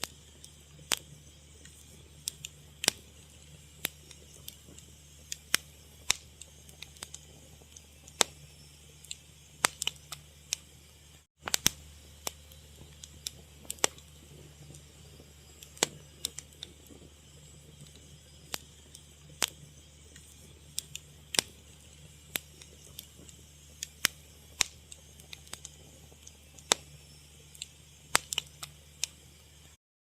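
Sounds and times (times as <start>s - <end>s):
wood fire crackling: 0.0s - 29.8s.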